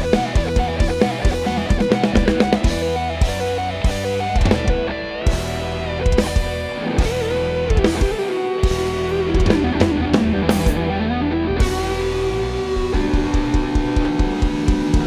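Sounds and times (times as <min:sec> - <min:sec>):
electric guitar solo: 0:00.0 - 0:15.0
live band backing notes: 0:00.0 - 0:15.0.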